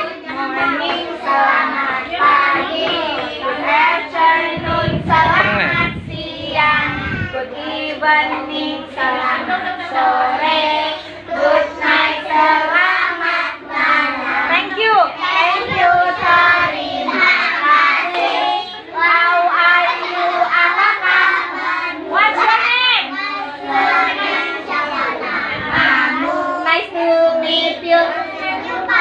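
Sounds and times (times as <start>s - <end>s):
young children singing: 0.0s - 29.0s.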